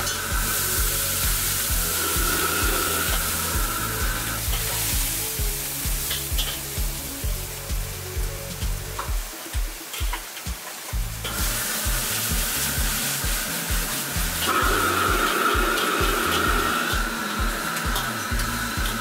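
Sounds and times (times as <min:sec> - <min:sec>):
background music with steady beat: 0:00.0 - 0:19.0
food sizzling in a wok: 0:00.0 - 0:19.0
gas burner flame: 0:00.0 - 0:19.0.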